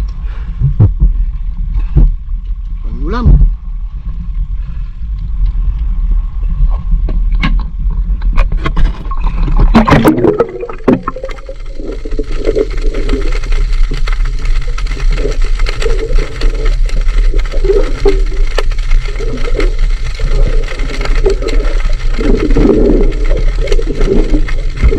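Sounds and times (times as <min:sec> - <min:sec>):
steady low rumble: 0:00.0 - 0:24.9
water gurgling and sloshing: 0:00.0 - 0:24.9.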